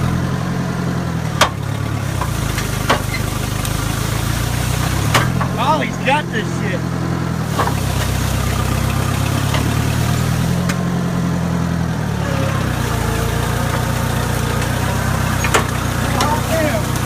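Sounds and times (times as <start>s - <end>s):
tractor engine straining: 0.0s - 17.0s.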